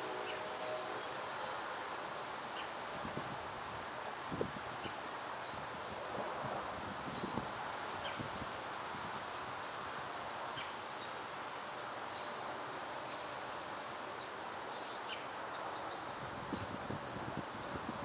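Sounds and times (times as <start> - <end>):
leaves rustling in breeze: 0.0 - 18.0.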